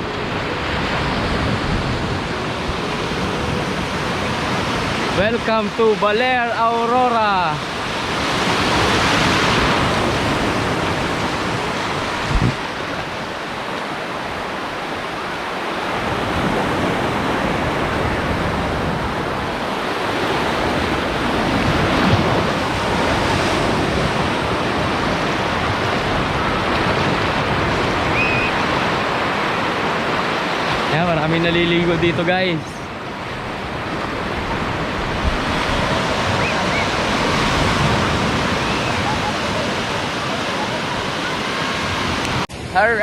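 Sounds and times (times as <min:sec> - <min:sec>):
wind on microphone: 0:00.0 - 0:05.2, 0:07.6 - 0:30.9, 0:32.4 - 0:42.7
ocean surf breaking: 0:00.0 - 0:43.0.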